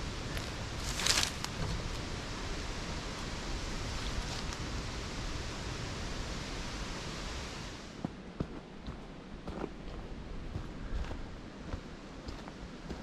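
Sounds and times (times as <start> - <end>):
wind rushing through forest: 0.0 - 13.0.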